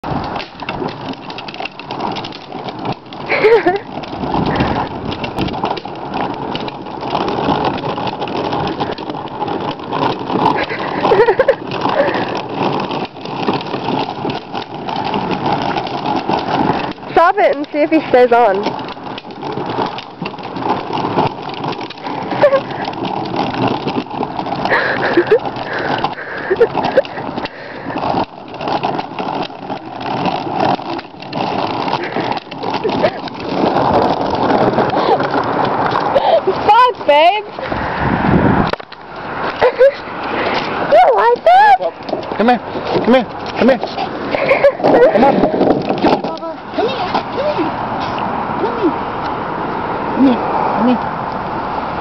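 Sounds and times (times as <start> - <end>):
toy tractor motor running: 0.0 - 48.8
plastic wheels rattling over pavement: 0.0 - 52.0.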